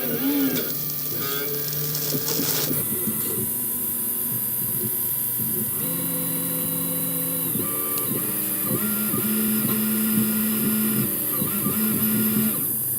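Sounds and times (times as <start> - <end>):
lathe motors whining: 0.0 - 12.9.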